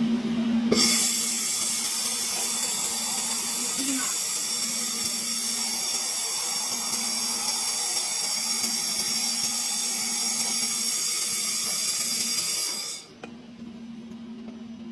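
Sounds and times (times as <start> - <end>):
welding arc sizzling: 0.7 - 13.1.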